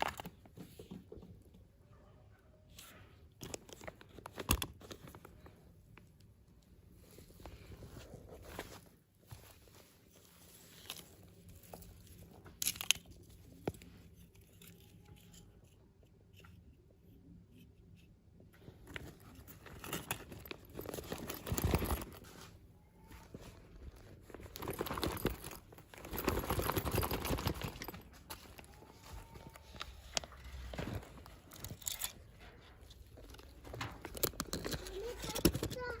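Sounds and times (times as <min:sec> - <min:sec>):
plastic and paper crinkling: 0:02.8 - 0:15.7, 0:18.6 - 0:36.0.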